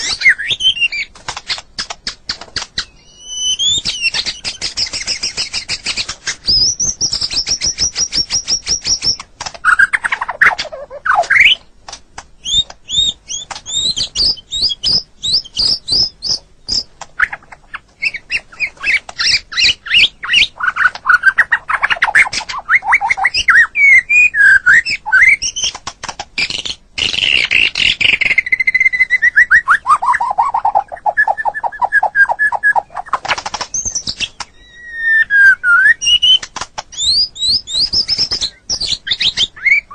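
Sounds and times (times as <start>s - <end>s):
bird singing varied song: 0.0s - 11.8s, 12.4s - 39.9s.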